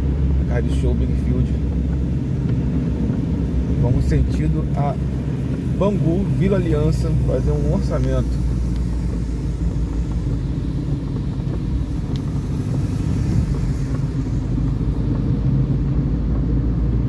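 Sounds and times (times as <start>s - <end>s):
car engine running: 0.0s - 17.0s
low road rumble on wet road: 0.0s - 17.0s.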